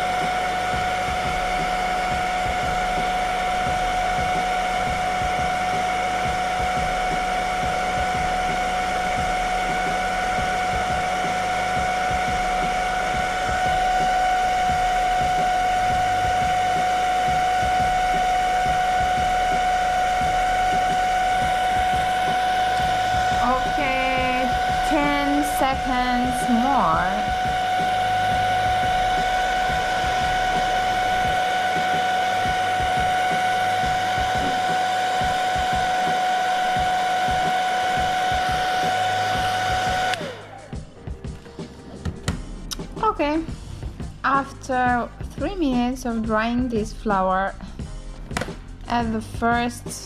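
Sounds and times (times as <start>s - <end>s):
hair dryer running: 0.0s - 43.7s.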